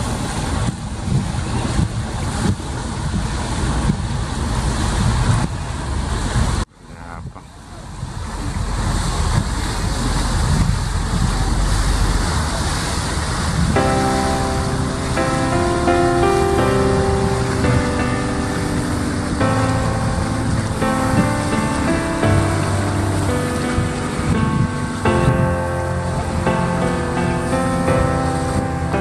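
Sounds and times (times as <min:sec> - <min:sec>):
wind buffeting microphone: 0:00.0 - 0:06.6, 0:07.2 - 0:29.0
sea waves: 0:00.0 - 0:29.0.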